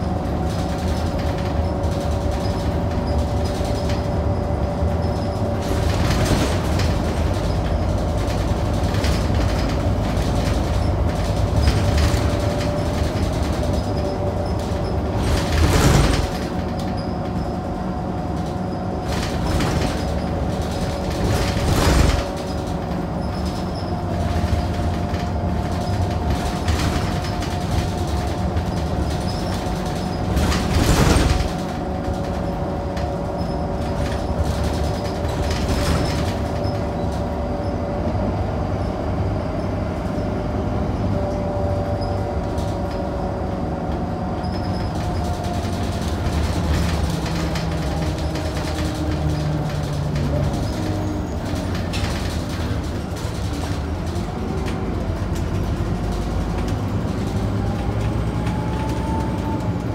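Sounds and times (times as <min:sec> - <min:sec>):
bus engine rumble and whine: 0:00.0 - 0:59.9.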